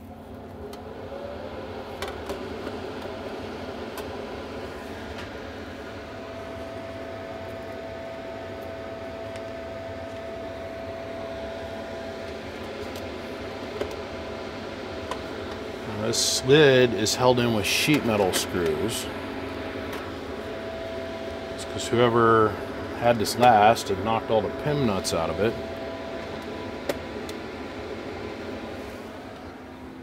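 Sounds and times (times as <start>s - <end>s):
small cooling fan running: 0.0s - 30.0s
thin steady whine: 0.0s - 30.0s.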